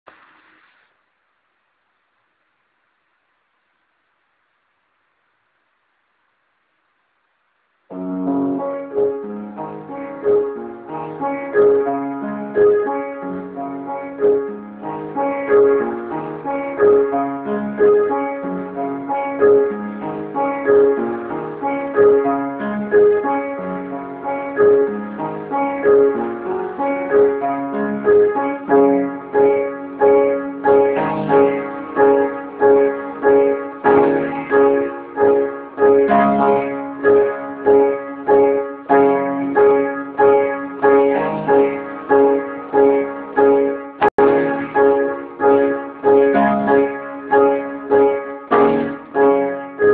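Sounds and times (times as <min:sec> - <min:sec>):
slow piano playing: 0:07.9 - 0:49.9.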